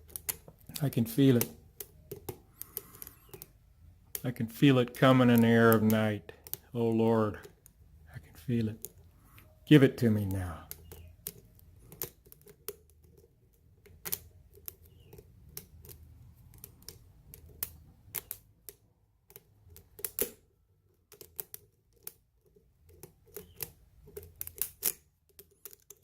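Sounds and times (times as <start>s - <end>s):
lock pick clicking and scraping: 0.0s - 26.0s.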